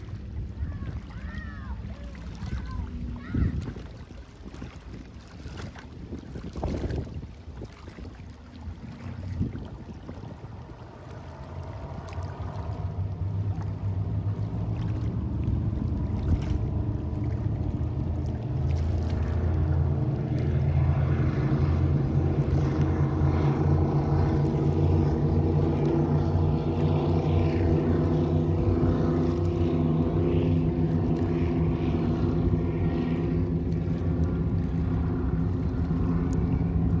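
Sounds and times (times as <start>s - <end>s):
powerboat engine rumble: 0.0s - 37.0s.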